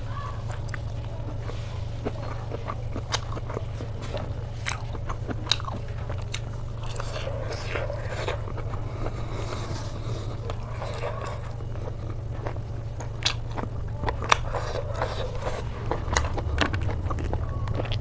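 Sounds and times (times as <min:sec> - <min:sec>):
person chewing food: 0:00.0 - 0:18.0
crunchy bites: 0:00.4 - 0:18.0.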